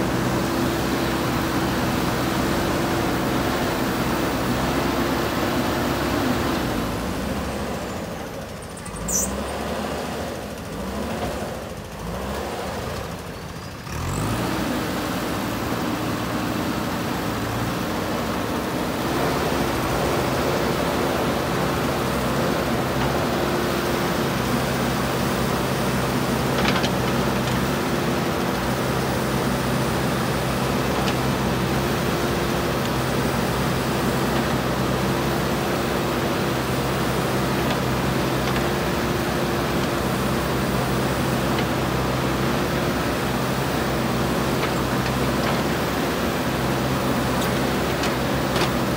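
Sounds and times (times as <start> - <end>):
backhoe diesel engine running: 0.0 - 48.9.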